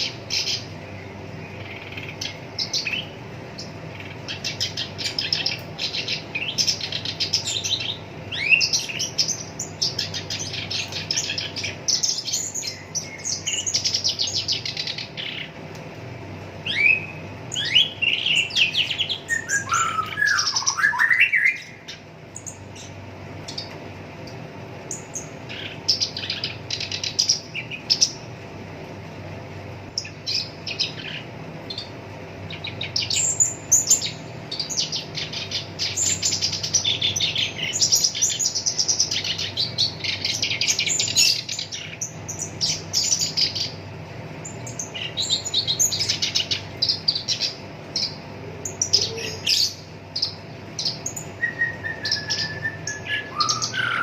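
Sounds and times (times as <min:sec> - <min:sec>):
warbler singing harsh chattering phrases: 0:00.0 - 0:54.0.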